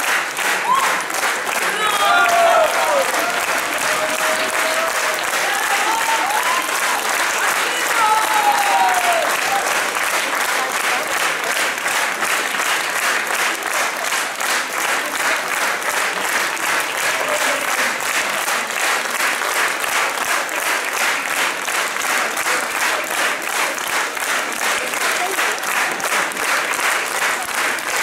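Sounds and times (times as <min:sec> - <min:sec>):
audience clapping in rhythm: 0:00.0 - 0:28.0.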